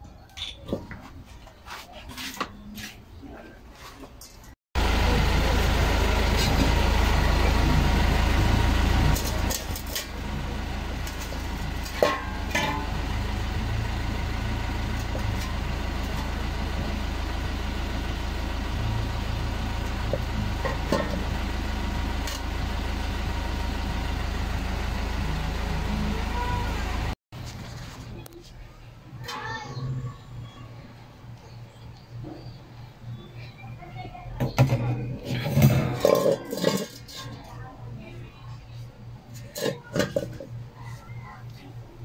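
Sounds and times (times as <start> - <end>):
low mechanical rumble: 4.8 - 42.0.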